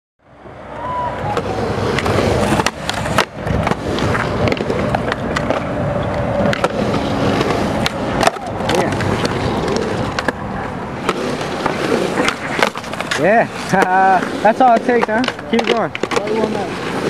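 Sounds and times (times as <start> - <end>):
skateboard wheels rolling on concrete: 0.2 - 17.0
skateboard clacks: 0.8 - 17.0.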